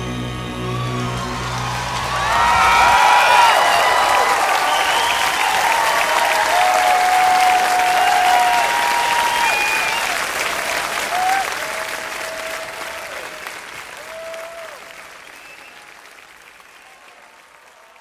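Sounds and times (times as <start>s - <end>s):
audience applauding: 0.0s - 18.0s
shouts and whistles: 0.1s - 10.3s, 11.0s - 13.4s, 14.0s - 15.9s.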